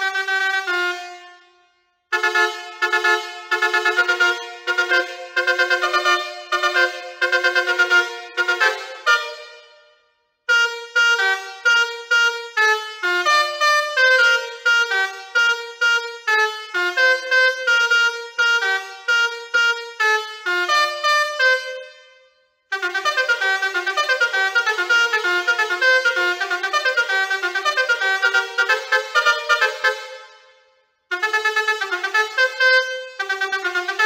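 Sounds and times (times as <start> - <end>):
musical air horn playing a tune: 0.0 - 34.0.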